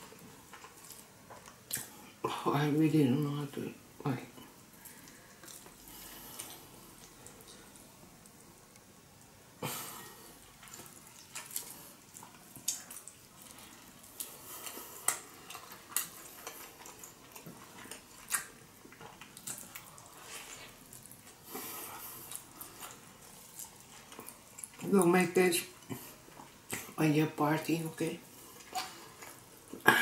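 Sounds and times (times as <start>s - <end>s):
person chewing wetly: 0.0s - 2.2s, 4.4s - 8.9s, 9.7s - 27.0s, 28.2s - 30.0s.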